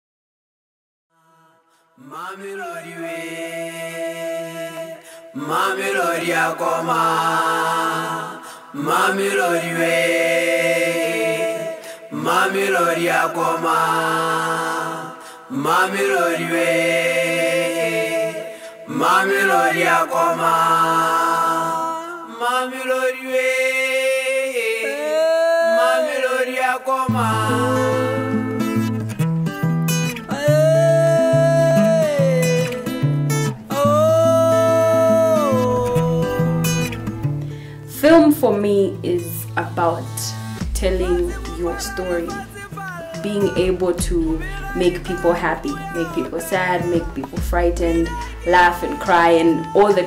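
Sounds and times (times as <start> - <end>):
a cappella chanting: 1.1 - 28.8, 30.3 - 33.0, 33.7 - 36.9, 38.0 - 50.0.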